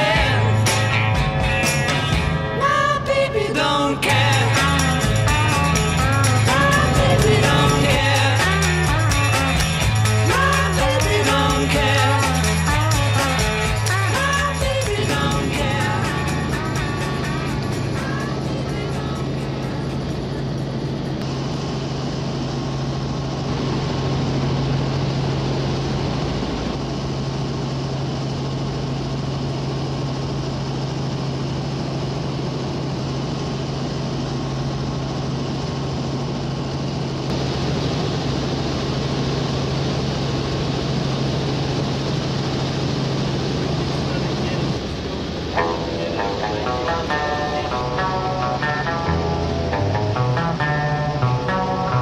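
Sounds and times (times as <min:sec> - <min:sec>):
helicopter engine and rotor hum: 0:00.0 - 0:52.0.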